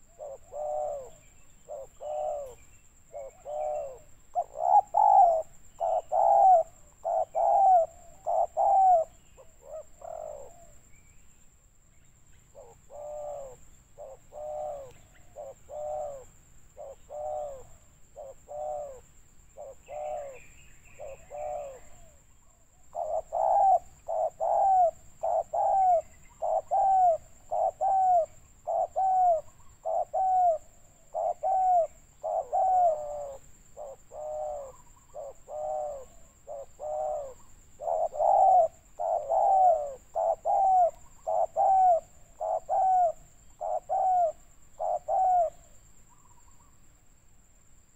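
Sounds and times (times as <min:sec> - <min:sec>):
dove cooing: 0:00.0 - 0:10.9, 0:12.5 - 0:46.7.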